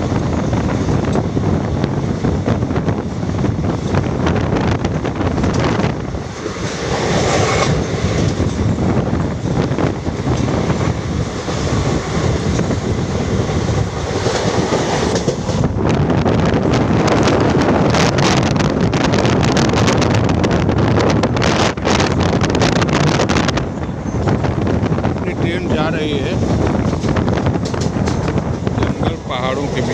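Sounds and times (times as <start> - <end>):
train wheels clattering on rails: 0.0 - 15.8, 21.6 - 29.9
wind buffeting microphone: 0.0 - 29.9.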